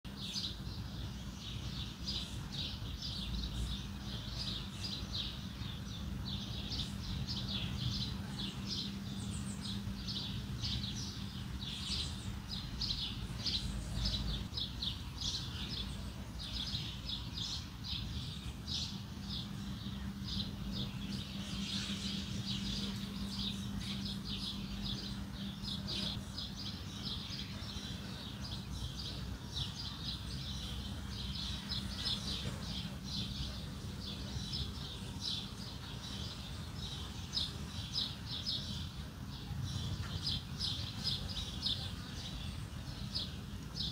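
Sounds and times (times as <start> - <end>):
small birds chirping: 0.0 - 43.9
steady low hum: 0.1 - 43.9.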